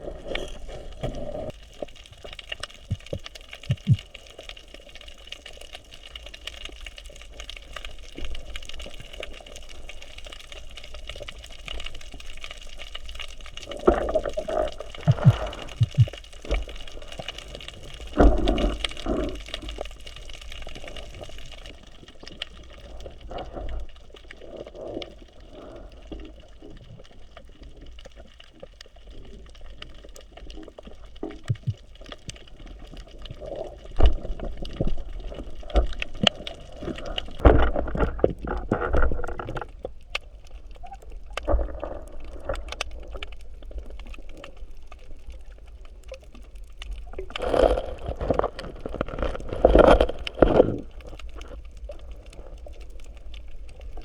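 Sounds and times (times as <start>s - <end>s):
water sloshing and splashing: 6.4s - 24.7s, 25.4s - 54.0s.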